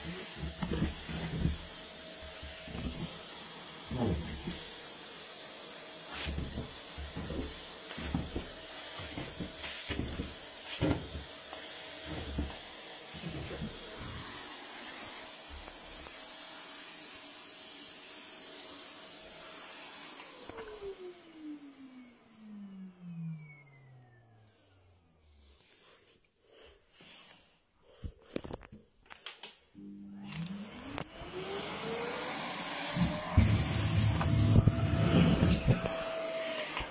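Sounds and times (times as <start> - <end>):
vacuum cleaner running: 0.0 - 27.4, 29.8 - 36.9.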